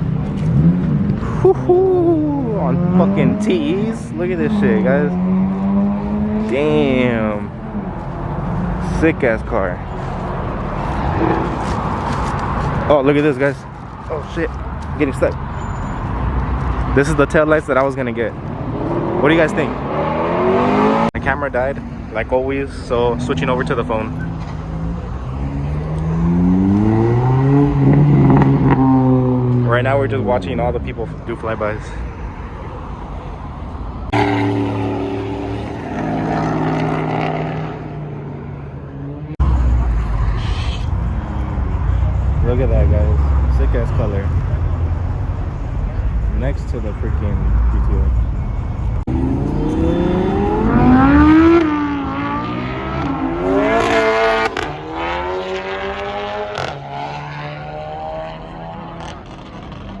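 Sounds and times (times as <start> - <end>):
car engines rumbling: 0.0 - 60.0.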